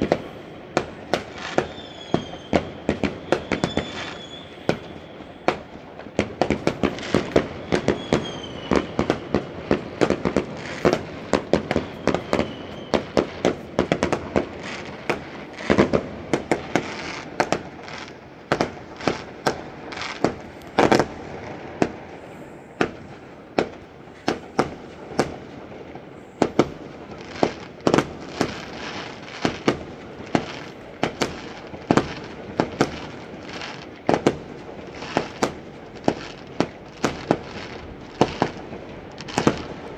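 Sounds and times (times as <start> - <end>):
fireworks bangs: 0.0 - 39.9
fireworks whistles: 0.0 - 39.9.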